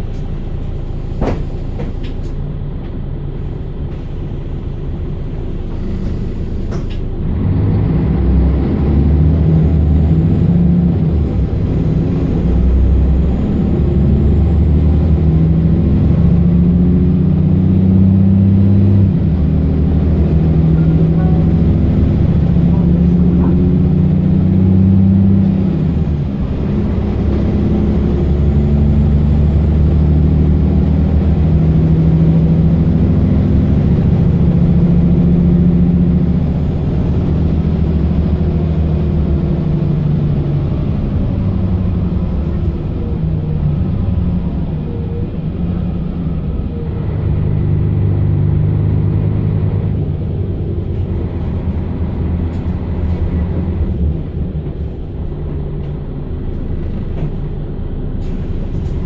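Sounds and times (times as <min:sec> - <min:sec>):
bus diesel engine working: 0:00.0 - 0:59.0.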